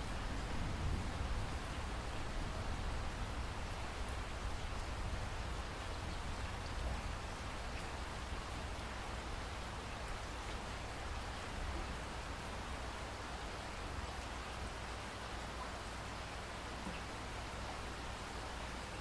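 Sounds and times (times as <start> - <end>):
steady gentle rain: 0.0 - 19.0.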